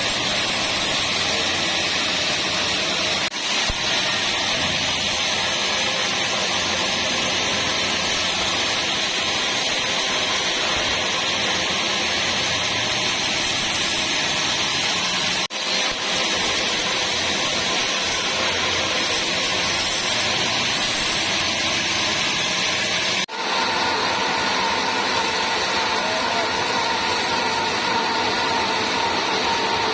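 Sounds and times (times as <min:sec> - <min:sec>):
sawmill saw cutting log: 0:00.0 - 0:29.9.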